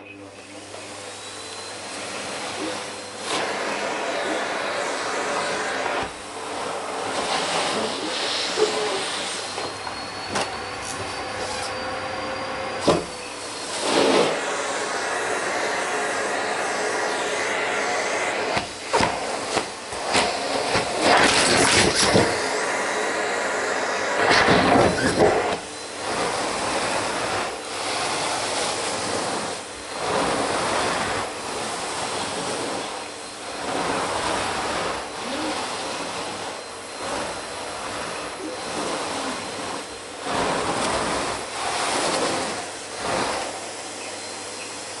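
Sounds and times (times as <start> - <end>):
vacuum cleaner suction: 0.0 - 45.0.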